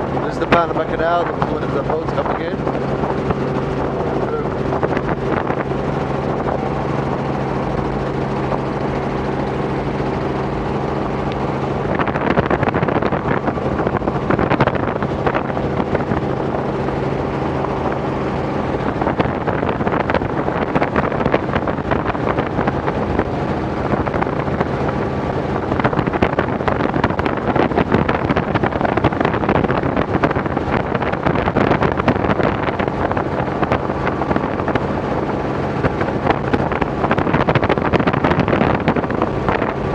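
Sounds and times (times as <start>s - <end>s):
helicopter engine and rotors drone: 0.0s - 39.9s
wind noise on microphone: 0.0s - 39.9s.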